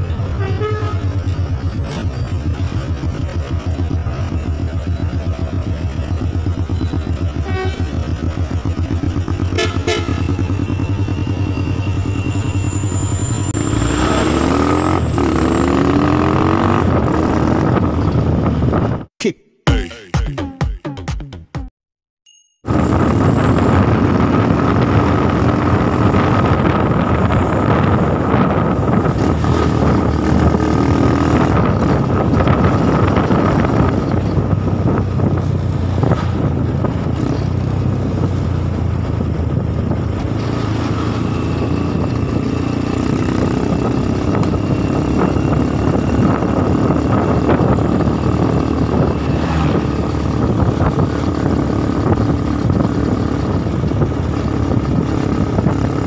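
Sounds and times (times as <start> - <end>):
higher whine: 0.0 - 19.0, 22.7 - 34.6, 40.8 - 55.0
vehicle engine and road noise: 0.0 - 19.1, 22.7 - 56.0.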